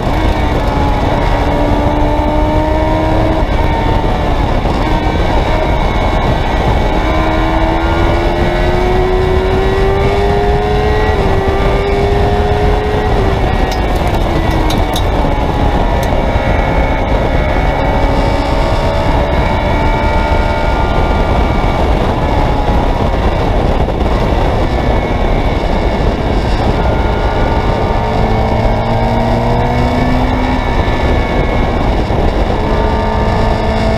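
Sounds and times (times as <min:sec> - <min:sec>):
race car engine revving: 0:00.0 - 0:33.9
wind noise on microphone: 0:00.0 - 0:33.9.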